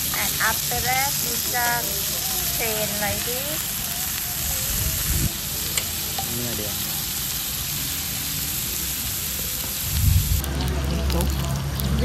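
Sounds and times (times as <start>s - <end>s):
cheese sizzling on a grill pan: 0.0s - 12.0s.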